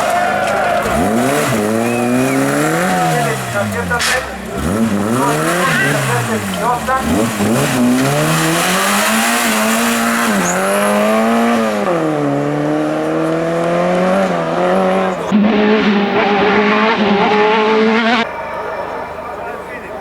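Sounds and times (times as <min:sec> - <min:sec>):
race car engine at full throttle: 0:00.0 - 0:18.4.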